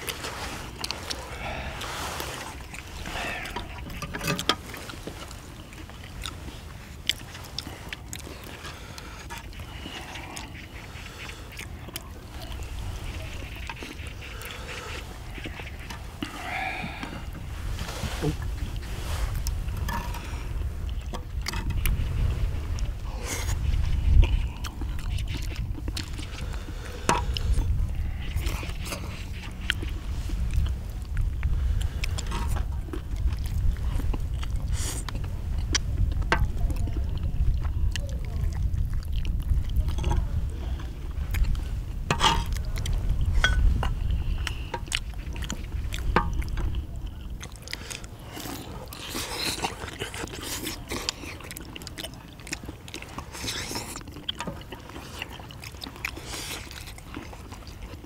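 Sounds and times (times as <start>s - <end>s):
person chewing and biting: 0.0s - 22.0s, 22.8s - 58.0s
wind rumble on microphone: 0.0s - 53.2s.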